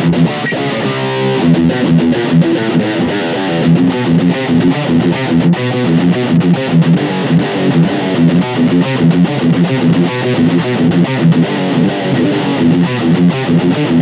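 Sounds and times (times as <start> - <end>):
electric guitar lead line: 0.0 - 14.0.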